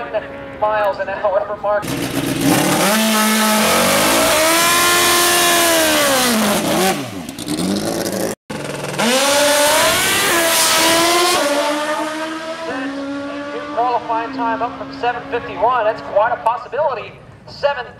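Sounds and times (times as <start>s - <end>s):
motorcycle engine revving: 1.8s - 16.4s.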